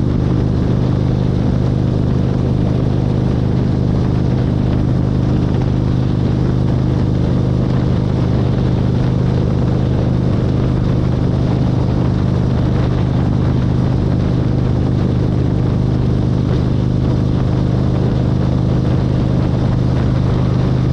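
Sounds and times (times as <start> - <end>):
car engine hum: 0.0 - 20.9
road noise: 0.0 - 20.9.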